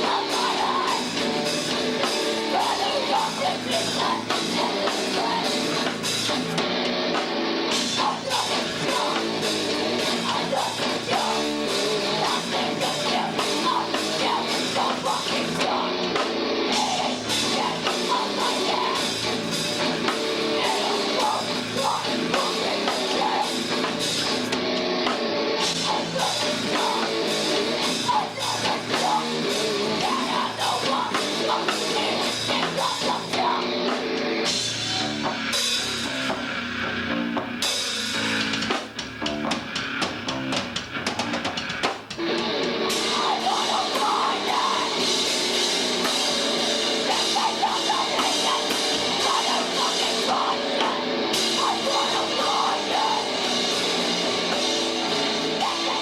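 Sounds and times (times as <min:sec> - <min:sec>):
drum kit with cymbals: 0:00.0 - 0:56.0
rock guitars: 0:00.0 - 0:56.0.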